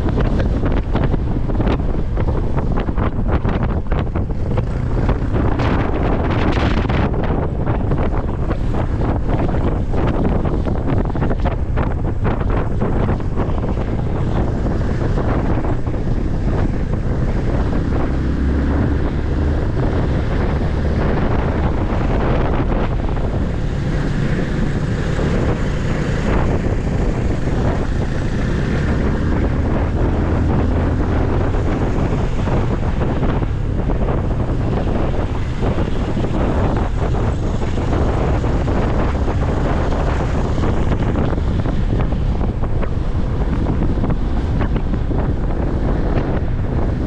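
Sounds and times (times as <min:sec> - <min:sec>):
vehicle engine low drone: 0:00.0 - 0:47.0
wind buffeting microphone: 0:00.0 - 0:47.0.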